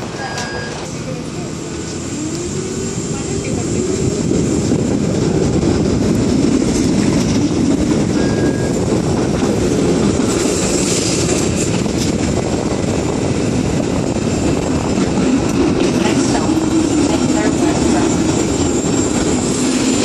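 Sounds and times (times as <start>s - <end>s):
streetcar wheels rumbling on rails: 0.0s - 20.0s.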